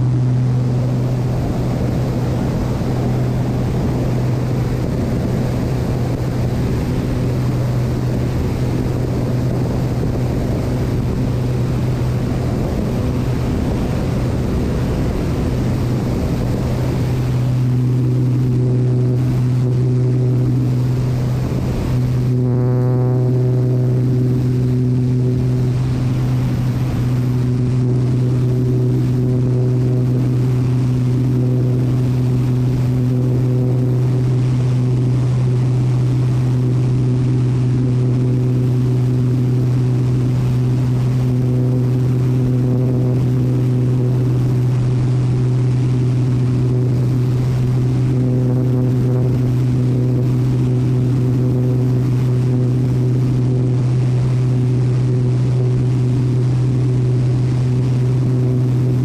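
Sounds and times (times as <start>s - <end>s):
airplane engine drone: 0.0s - 59.0s
rushing air: 0.0s - 59.0s.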